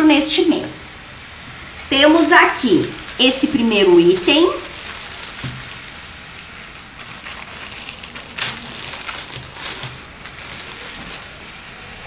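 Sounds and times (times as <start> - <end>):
metallic foil crinkling: 1.7 - 12.0.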